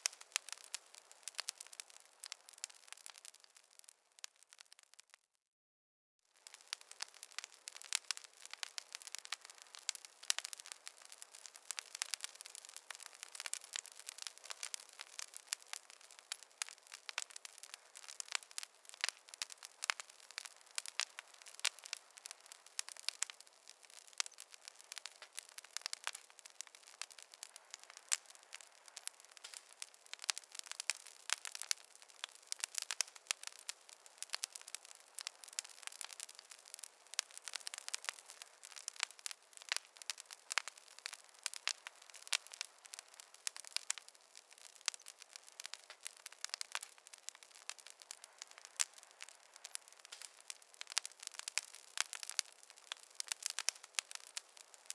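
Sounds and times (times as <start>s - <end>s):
campfire crackling and popping: 0.0s - 5.2s, 6.3s - 54.9s.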